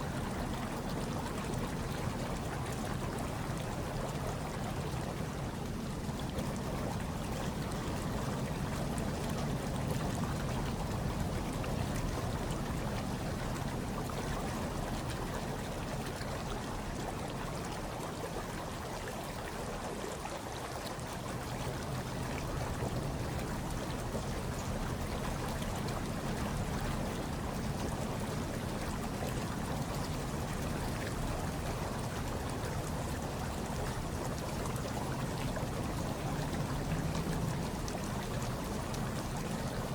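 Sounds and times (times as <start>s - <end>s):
hot tub water bubbling: 0.0s - 39.9s.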